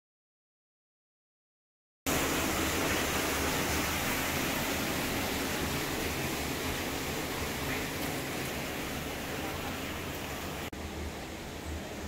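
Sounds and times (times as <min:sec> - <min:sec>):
steady rushing hiss: 0:02.1 - 0:12.0.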